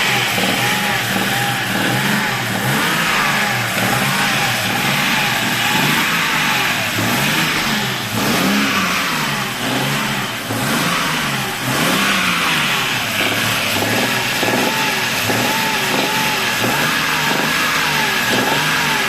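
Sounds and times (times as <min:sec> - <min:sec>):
car engine revving: 0:00.0 - 0:19.0
engine knocking: 0:00.0 - 0:19.0.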